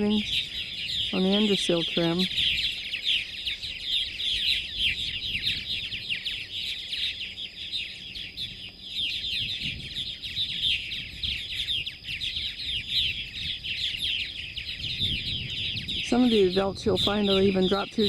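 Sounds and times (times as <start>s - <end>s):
birds chattering in chorus: 0.0s - 18.0s.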